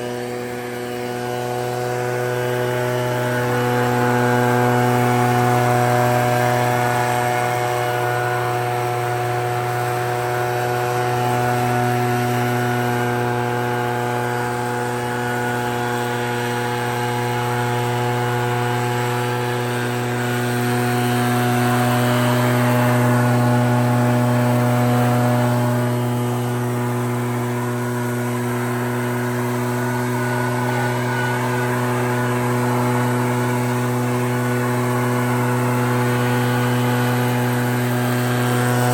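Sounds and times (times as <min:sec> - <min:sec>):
backpack blower engine running: 0:00.0 - 0:38.9.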